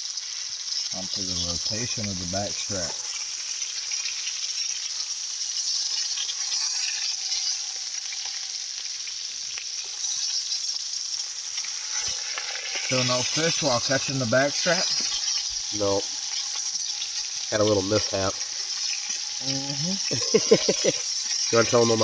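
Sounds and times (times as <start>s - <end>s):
meat sizzling in a pan: 0.0s - 22.0s.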